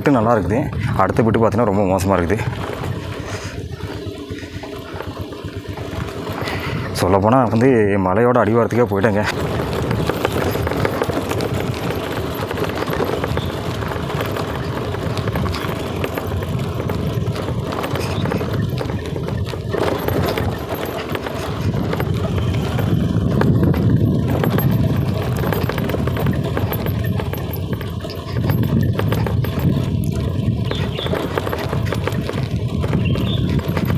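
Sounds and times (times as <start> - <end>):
knocks and rattles over bumps: 0.0 - 33.9
scooter engine running: 0.0 - 33.9.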